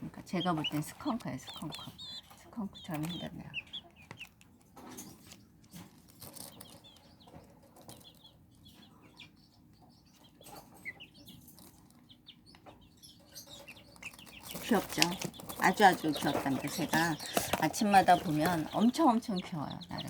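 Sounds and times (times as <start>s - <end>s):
chicks peeping: 0.0s - 20.0s
clicks and rustles of chicks moving: 0.0s - 20.0s.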